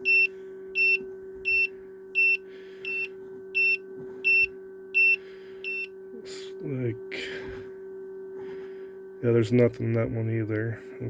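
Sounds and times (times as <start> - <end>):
incubator alarm beeping: 0.0 - 10.9
steady hum: 0.0 - 11.0.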